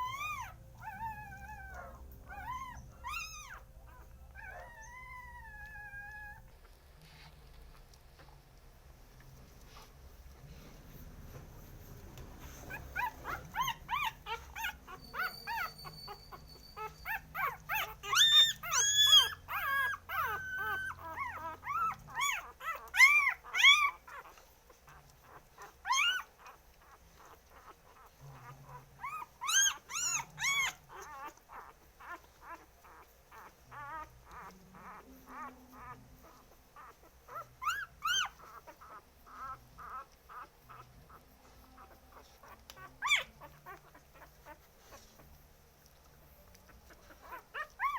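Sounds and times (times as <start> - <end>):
puppies whining and yelping: 0.0 - 8.4, 11.5 - 47.9.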